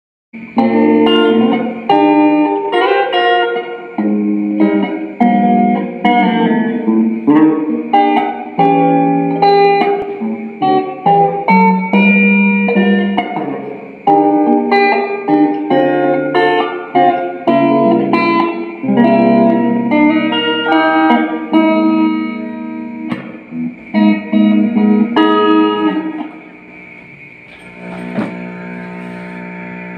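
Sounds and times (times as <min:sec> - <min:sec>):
electric guitar through amplifier: 0:00.4 - 0:29.9.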